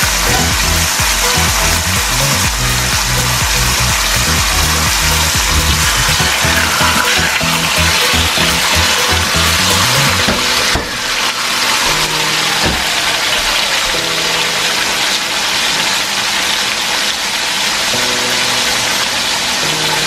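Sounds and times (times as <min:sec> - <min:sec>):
background music: 0:00.0 - 0:16.2, 0:17.9 - 0:20.0
steaks sizzling in a skillet: 0:00.0 - 0:20.0.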